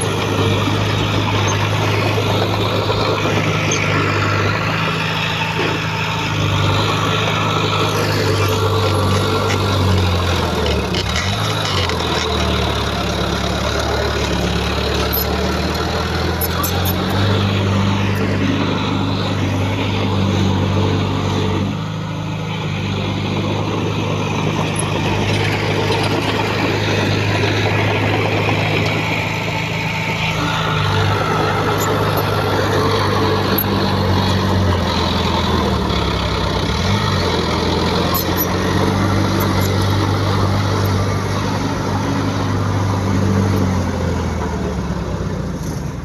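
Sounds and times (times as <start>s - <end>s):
diesel engine of heavy machinery: 0.0s - 46.0s.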